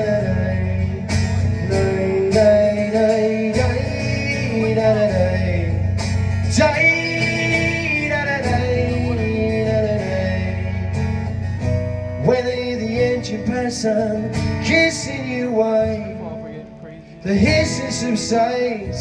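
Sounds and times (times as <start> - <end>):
man singing long notes: 0.0 - 10.7, 12.2 - 19.0
acoustic guitar strummed: 0.0 - 19.0.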